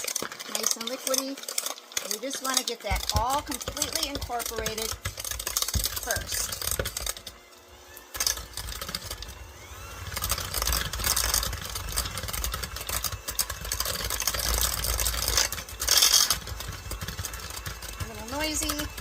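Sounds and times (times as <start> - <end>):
electric hand mixer beating: 0.0 - 19.0.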